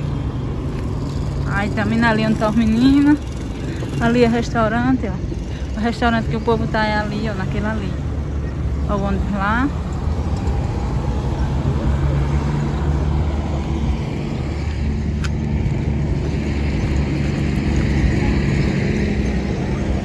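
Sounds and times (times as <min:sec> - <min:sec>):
road traffic: 0:00.0 - 0:20.0
vehicle engine hum: 0:00.0 - 0:20.0.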